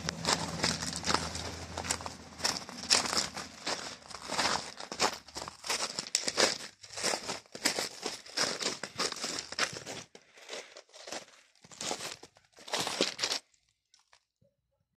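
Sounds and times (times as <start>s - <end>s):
footsteps on gravel: 0.0s - 13.6s.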